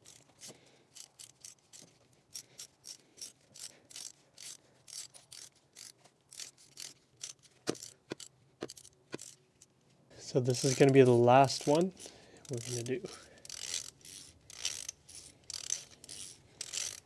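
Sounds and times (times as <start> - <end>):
hand ratchet clicking: 0.0 - 9.4, 10.5 - 17.0.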